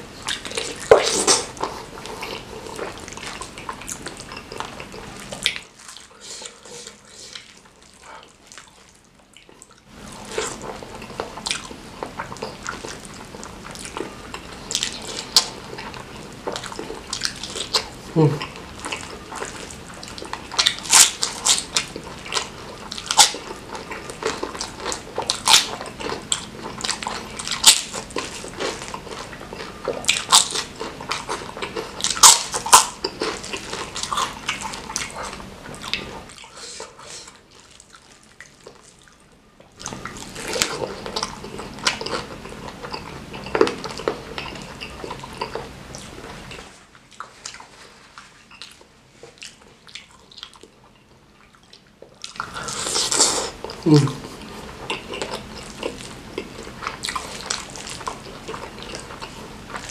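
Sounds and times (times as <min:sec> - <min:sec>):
wet chewing and smacking: 0:00.2 - 0:59.9.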